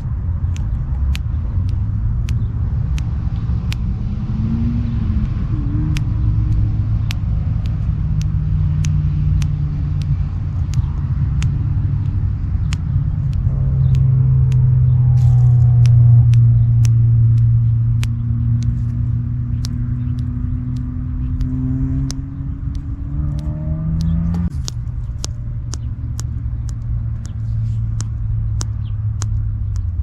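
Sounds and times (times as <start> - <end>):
low hum: 0.0 - 30.0
low rumble: 0.0 - 30.0
thumb joint popping: 0.0 - 30.0.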